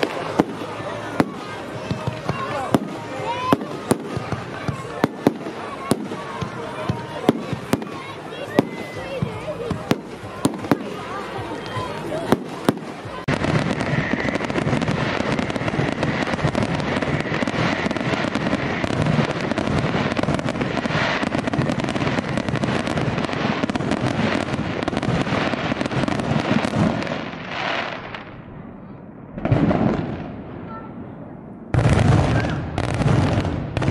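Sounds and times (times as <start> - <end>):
fireworks bangs and pops: 0.0 - 28.7, 29.3 - 31.1, 31.7 - 33.9.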